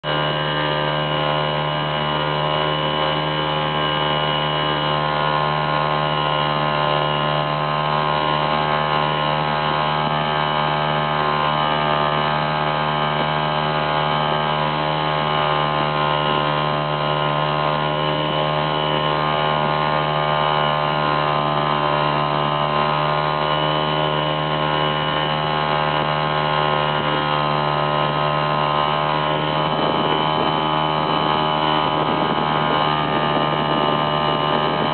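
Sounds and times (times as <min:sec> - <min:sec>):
steady motor drone: 0:00.0 - 0:34.9.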